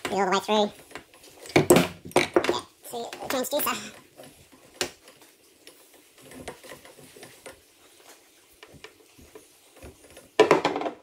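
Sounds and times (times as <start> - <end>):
soft rustling of cable: 0.0 - 10.4
faint clicks and knocks: 0.0 - 11.0.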